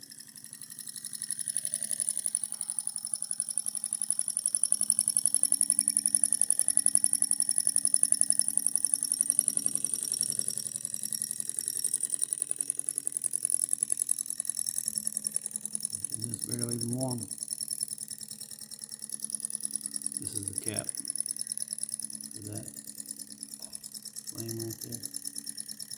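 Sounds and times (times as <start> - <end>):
small engine mechanical beat: 0.0 - 25.9.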